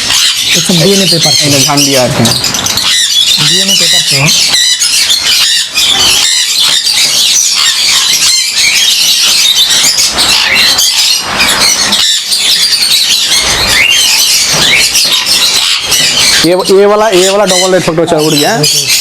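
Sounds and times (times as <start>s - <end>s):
parrots screeching: 0.0s - 19.0s.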